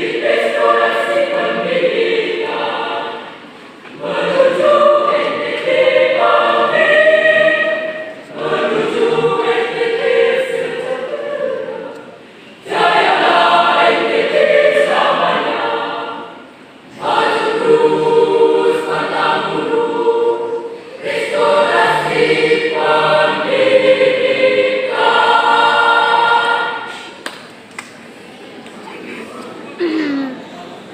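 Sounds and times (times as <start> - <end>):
choir singing sustained chords: 0.0 - 27.2.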